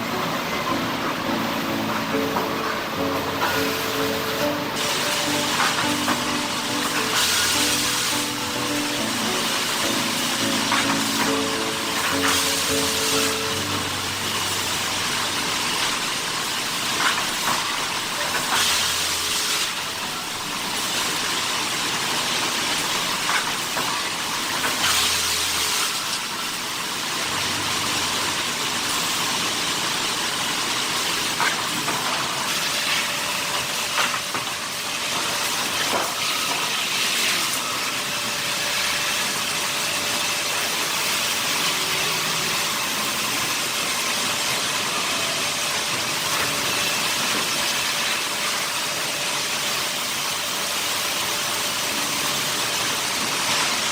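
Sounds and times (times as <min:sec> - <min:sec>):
sawmill machinery hissing: 0:00.0 - 0:53.9.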